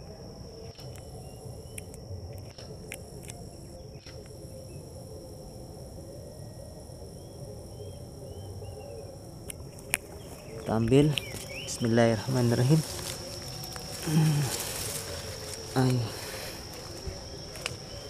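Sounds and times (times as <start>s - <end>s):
crickets droning: 0.0s - 18.0s.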